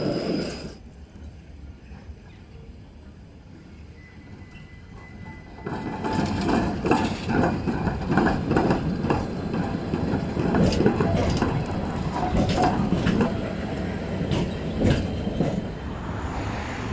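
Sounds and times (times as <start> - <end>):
tram clattering rumble: 0.0 - 16.9.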